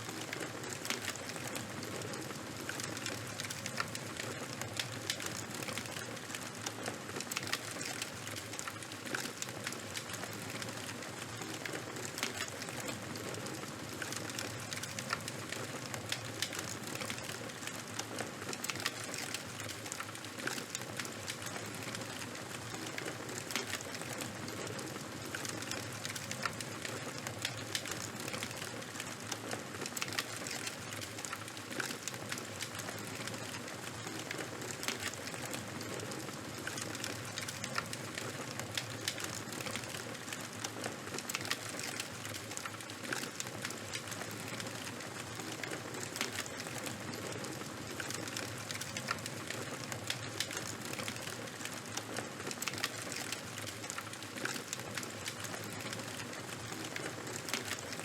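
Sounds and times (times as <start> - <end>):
fire crackling and hissing: 0.0 - 58.0.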